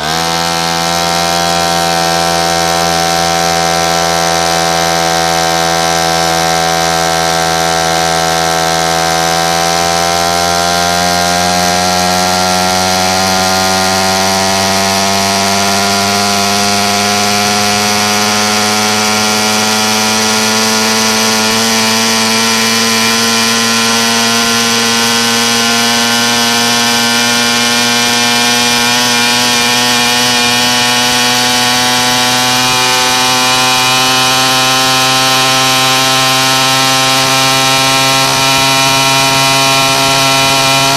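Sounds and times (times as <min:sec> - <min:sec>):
small engine revving up: 0:00.0 - 0:40.9.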